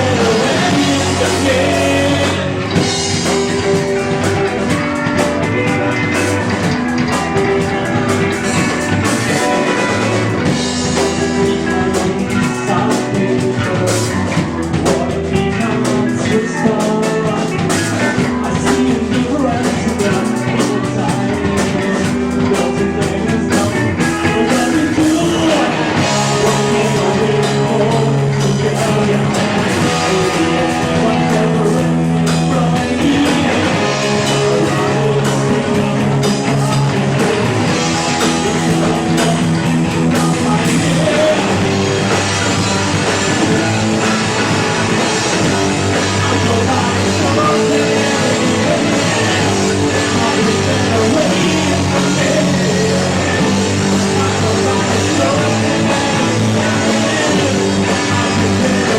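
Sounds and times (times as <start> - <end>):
distorted electric guitars: 0.0 - 58.9
rock band playing live: 0.0 - 58.9.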